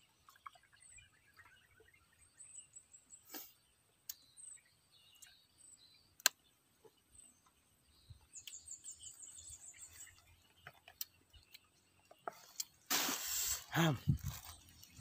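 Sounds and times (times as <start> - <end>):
faint high bird chirping: 0.0 - 15.0.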